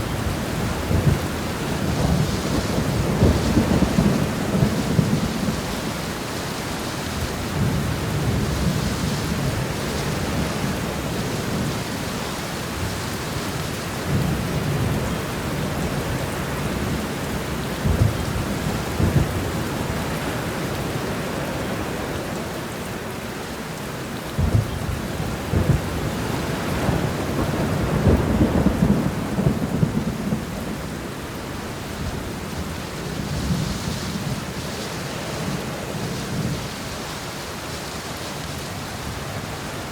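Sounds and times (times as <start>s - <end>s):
rain shower hiss: 0.0s - 39.9s.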